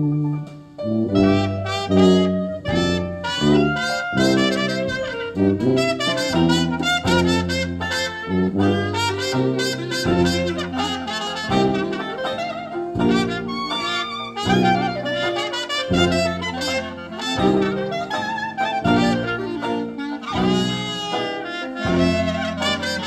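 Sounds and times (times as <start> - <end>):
jazz music with horns and bass: 0.0 - 23.0.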